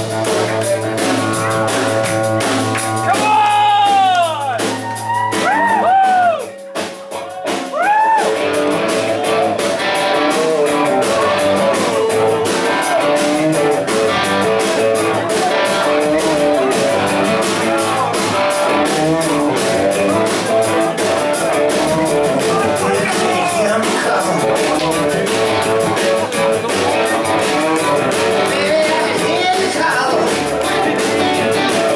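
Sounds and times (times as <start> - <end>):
electric guitar lead: 0.0 - 31.9
rock band playing: 0.0 - 31.9.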